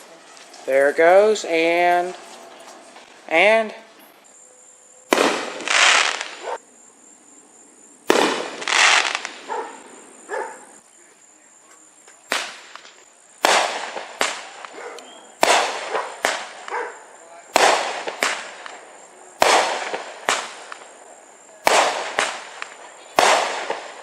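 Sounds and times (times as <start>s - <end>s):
fireworks banging and crackling: 0.0s - 4.4s, 5.0s - 6.6s, 7.9s - 24.0s.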